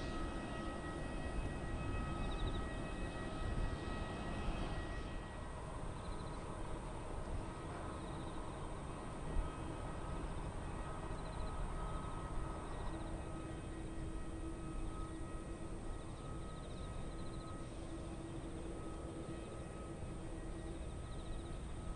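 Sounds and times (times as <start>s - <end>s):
jet engines idling hum: 0.0s - 21.9s.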